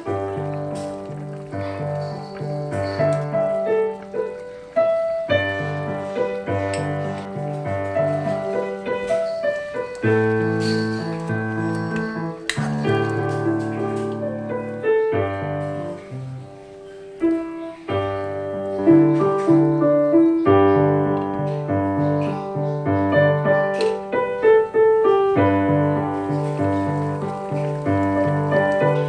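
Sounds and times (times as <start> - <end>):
gentle piano tune: 0.0 - 29.0.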